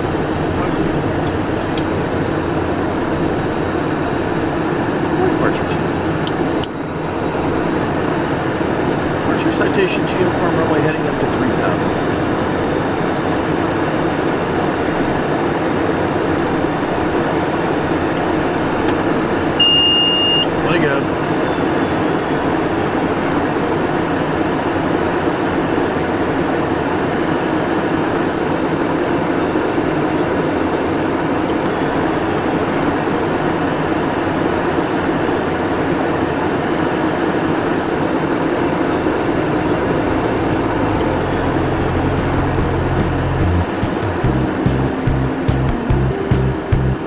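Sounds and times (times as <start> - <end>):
jet cockpit airflow and engine rumble: 0.0 - 47.0.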